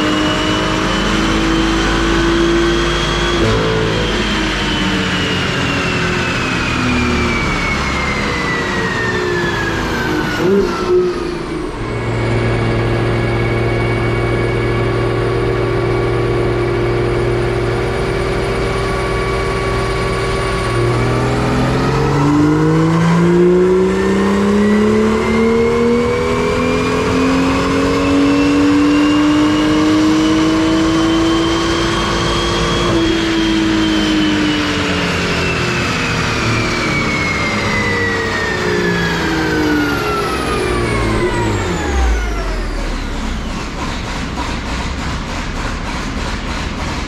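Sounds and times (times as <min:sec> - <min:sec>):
car engine at full throttle: 0:00.0 - 0:47.0
dyno rollers winding down whine: 0:00.0 - 0:47.0.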